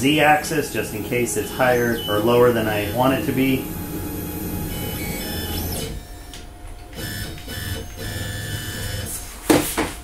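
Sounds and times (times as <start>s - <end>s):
stepper motors whining: 0.0s - 9.2s.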